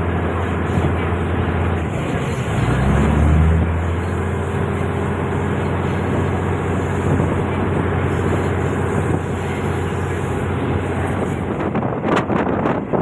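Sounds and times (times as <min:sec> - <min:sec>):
diesel engine drone: 0:00.0 - 0:13.0
train wheels on rails: 0:00.0 - 0:13.0.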